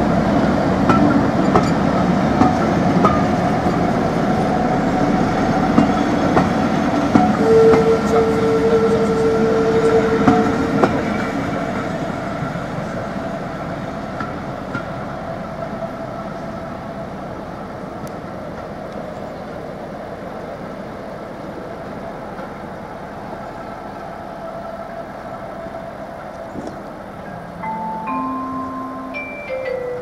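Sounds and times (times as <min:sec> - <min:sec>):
passenger train rolling past: 0:00.0 - 0:30.0.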